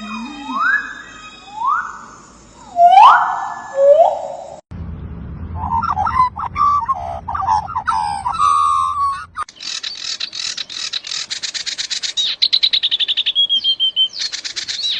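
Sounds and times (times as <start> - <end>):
bird calling: 0.0 - 4.6, 5.6 - 14.9.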